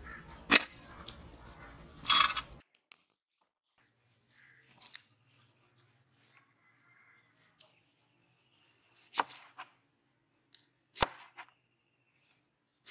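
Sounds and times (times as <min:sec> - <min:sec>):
hands working with food and bowls: 0:00.0 - 0:12.9.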